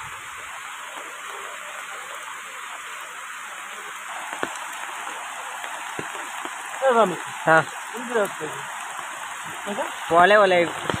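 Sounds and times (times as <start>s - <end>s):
floodwater running: 0.0s - 11.0s
rain falling on trees: 0.0s - 11.0s.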